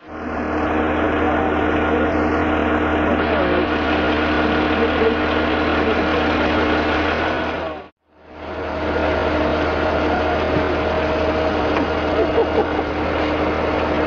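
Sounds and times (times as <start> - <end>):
crane engine running: 0.0 - 14.0.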